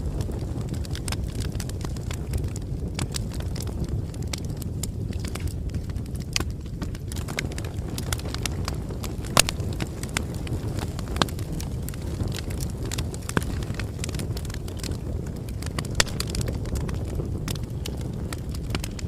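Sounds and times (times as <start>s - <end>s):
bonfire rumble: 0.0s - 19.0s
fire crackling and popping: 0.0s - 19.0s.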